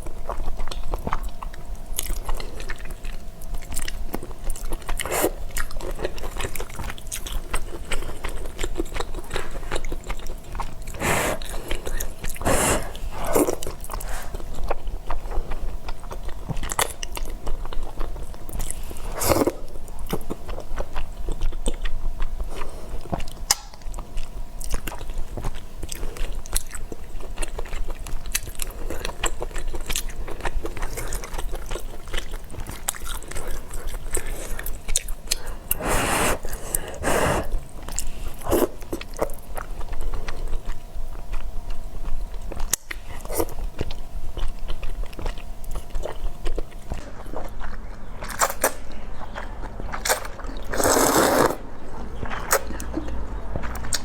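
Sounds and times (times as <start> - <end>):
chewing noodles: 0.0 - 54.0.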